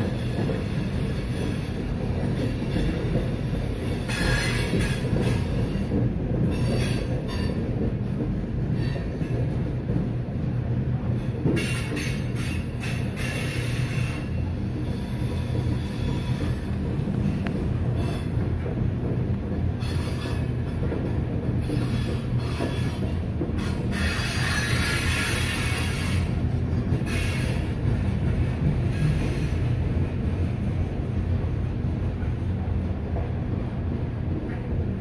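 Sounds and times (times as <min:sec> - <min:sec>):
steel wheels rumbling on rails: 0:00.0 - 0:35.0.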